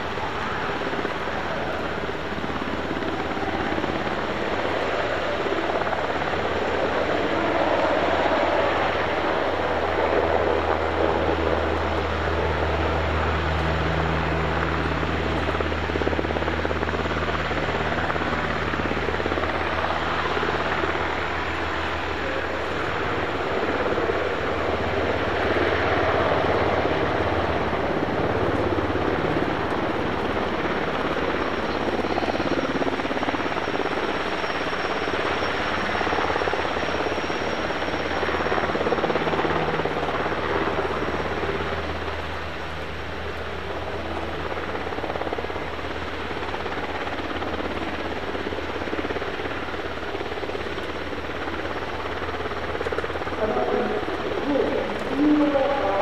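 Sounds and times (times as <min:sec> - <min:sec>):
faint high whine: 0:00.0 - 0:56.0
helicopter rotor and engine: 0:00.0 - 0:56.0.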